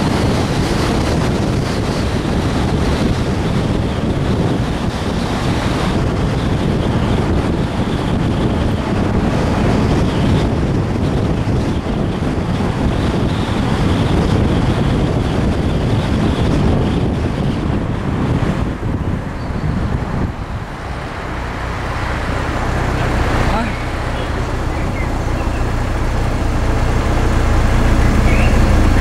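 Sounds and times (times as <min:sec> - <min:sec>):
car engine and road noise: 0:00.0 - 0:29.0
wind buffeting microphone: 0:00.0 - 0:29.0.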